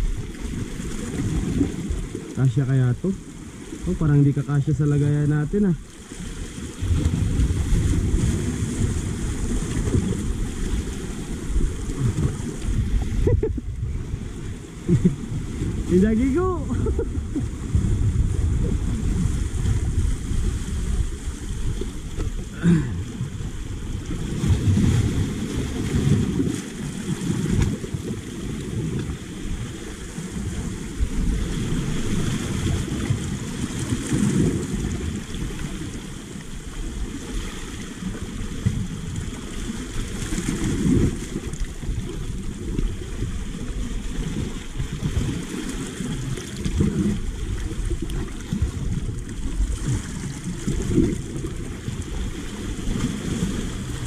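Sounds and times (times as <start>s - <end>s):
wind noise on microphone: 0.0s - 3.1s, 3.8s - 54.0s
sea waves washing over rocks: 0.0s - 54.0s.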